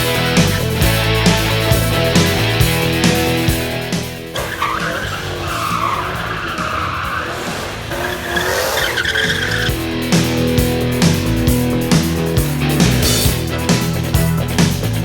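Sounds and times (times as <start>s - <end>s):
tires squealing: 0.0s - 13.9s
car engine revving: 0.0s - 15.0s
rock music with guitar: 0.0s - 15.0s.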